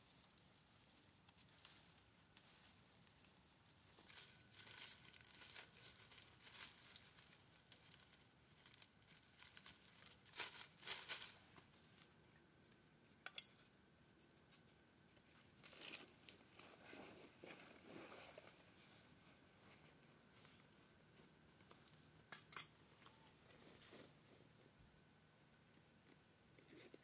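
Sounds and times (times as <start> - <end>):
faint rustling and crackling: 0.0 - 12.8, 14.1 - 25.0, 25.6 - 27.0.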